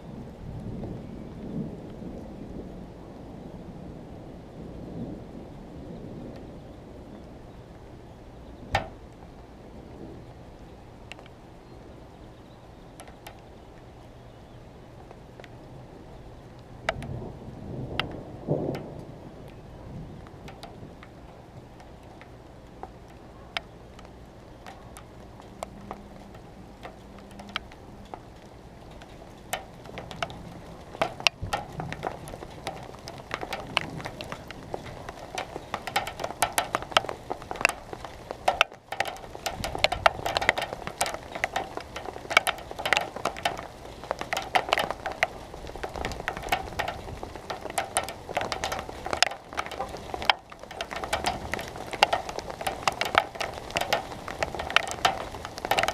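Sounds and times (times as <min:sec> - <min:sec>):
rain pattering on hard surface: 0:00.0 - 0:55.9.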